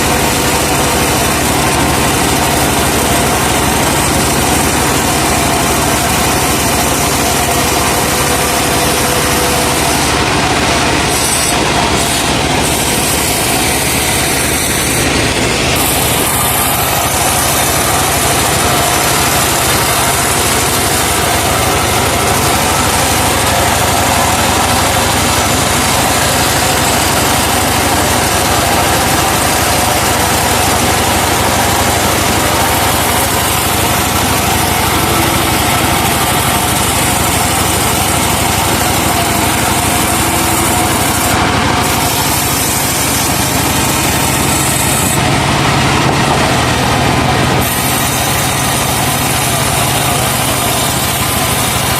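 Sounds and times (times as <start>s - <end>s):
sawmill cutting wood: 0.0s - 51.9s.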